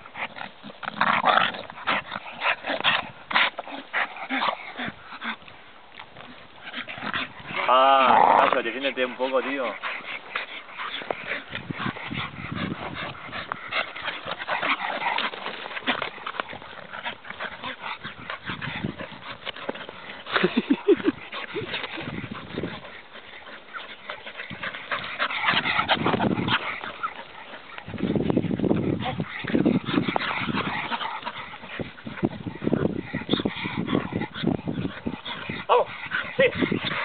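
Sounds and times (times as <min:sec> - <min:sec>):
dogs whimpering and yipping: 0:00.0 - 0:05.5, 0:06.2 - 0:37.0.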